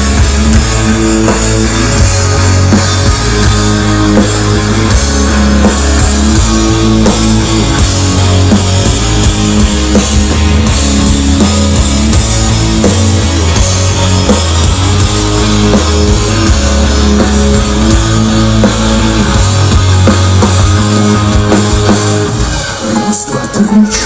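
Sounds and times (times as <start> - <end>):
bass guitar: 0.0 - 23.2
distorted electric guitars: 0.0 - 24.0
drum kit: 0.0 - 24.0.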